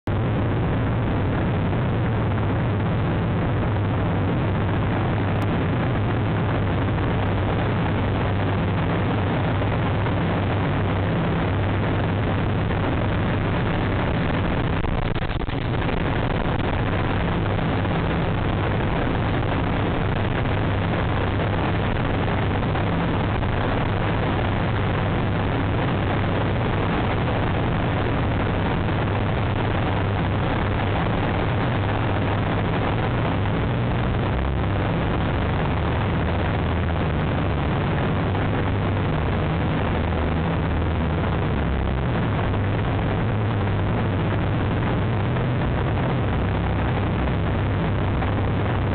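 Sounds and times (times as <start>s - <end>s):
low hum: 0.0s - 48.9s
steady rushing noise: 0.0s - 48.9s.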